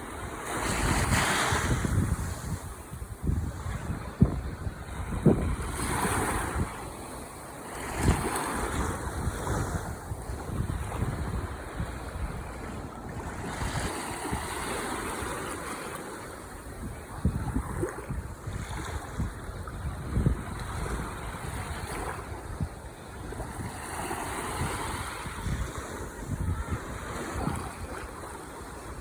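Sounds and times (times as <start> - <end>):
wind buffeting microphone: 0.0 - 7.2, 7.8 - 15.6, 16.5 - 29.0
ocean waves breaking on shore: 0.0 - 29.0.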